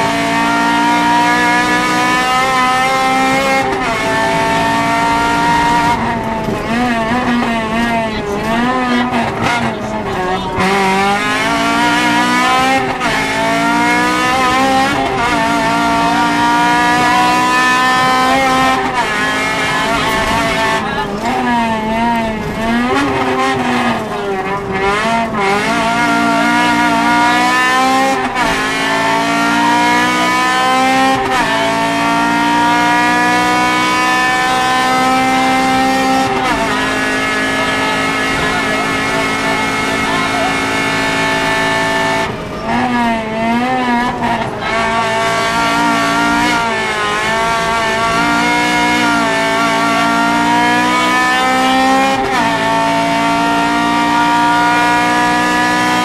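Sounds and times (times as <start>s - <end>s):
rally car engine accelerating: 0.0s - 56.0s.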